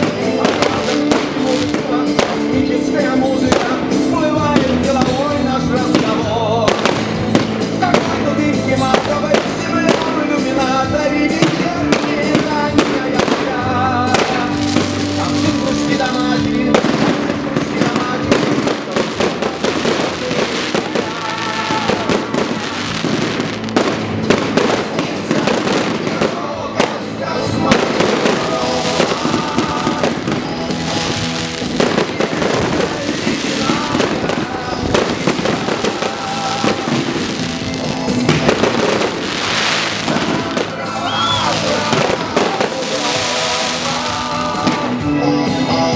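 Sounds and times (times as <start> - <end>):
fireworks bangs and crackling: 0.0 - 45.9
music playing: 0.0 - 45.9.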